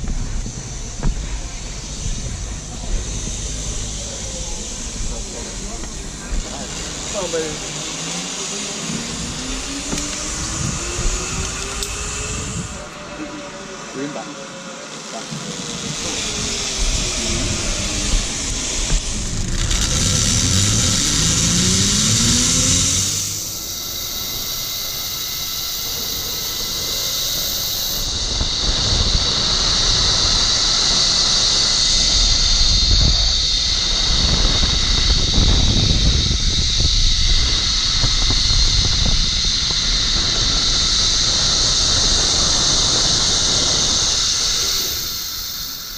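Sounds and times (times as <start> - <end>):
rushing noise: 0.0 - 45.9
zip line trolley whirring: 0.0 - 45.9.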